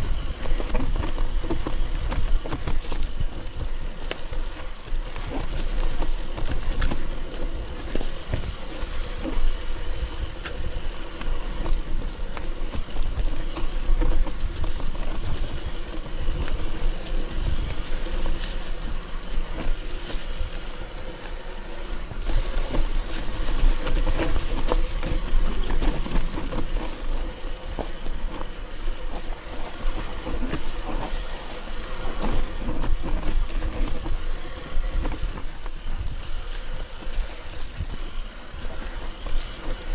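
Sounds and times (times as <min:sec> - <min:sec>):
bike rattling and knocking: 0:00.0 - 0:39.9
bike tyres rolling over dirt: 0:00.0 - 0:39.9
wind rumble on microphone: 0:00.0 - 0:39.9.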